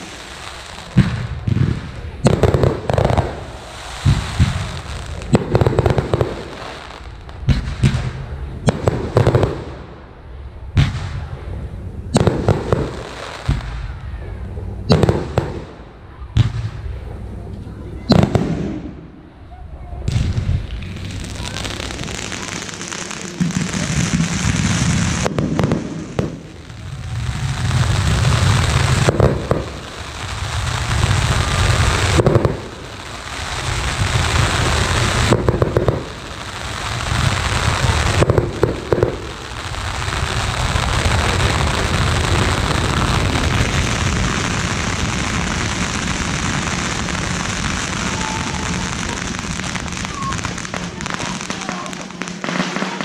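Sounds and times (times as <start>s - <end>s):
firework fountains hissing: 0.0s - 53.0s.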